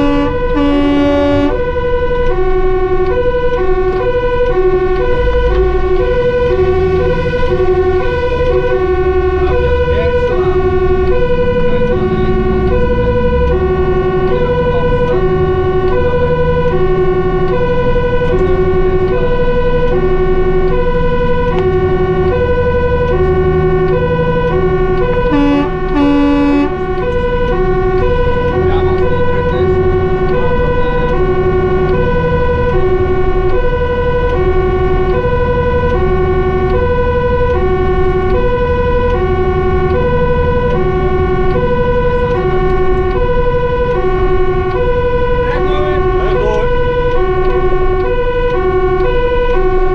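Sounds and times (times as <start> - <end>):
diesel engine running: 0.0 - 49.9
fire truck two-tone siren: 0.0 - 49.9
low-tone horn blasts: 0.0 - 49.9.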